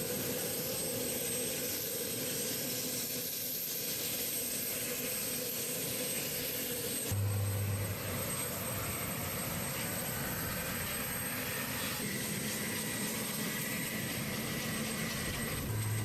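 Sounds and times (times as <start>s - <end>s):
helicopter engines and rotor: 0.0s - 16.0s.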